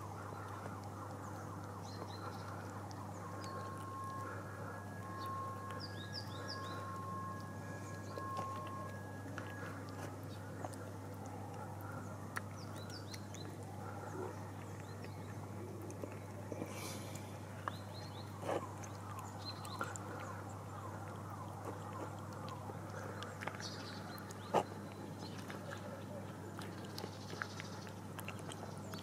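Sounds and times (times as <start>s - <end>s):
cat chewing wet food: 0.0s - 29.0s.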